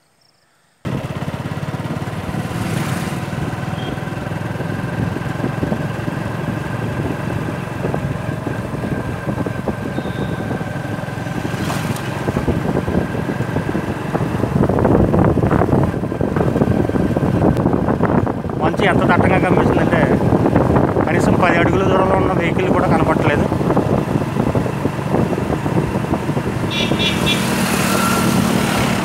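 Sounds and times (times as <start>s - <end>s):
vehicle engine running: 0.8s - 29.0s
wind rushing over microphone: 1.2s - 29.0s.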